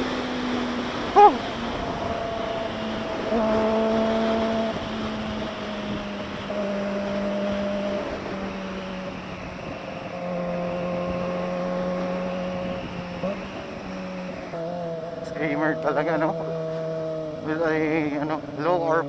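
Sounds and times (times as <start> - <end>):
motorcycle engine screaming exhaust: 0.0 - 19.0.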